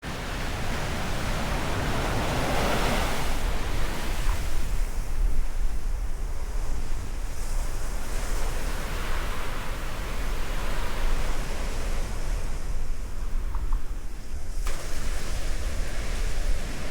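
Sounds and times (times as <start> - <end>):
sea surf breaking on shore: 0.0 - 16.9
wind rumbling on microphone: 0.0 - 16.9.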